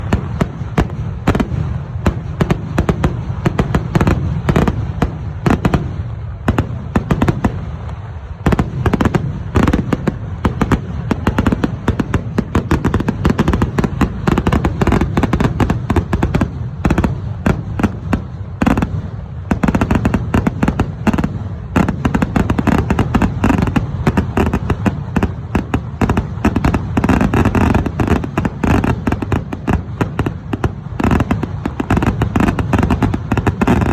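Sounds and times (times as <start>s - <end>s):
fireworks cracking: 0.0s - 33.9s.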